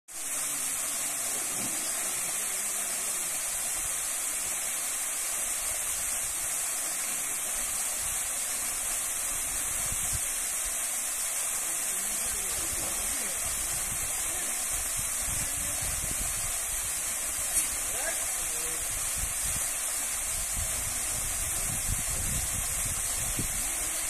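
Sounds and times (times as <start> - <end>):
waterfall splashing: 0.1 - 24.0.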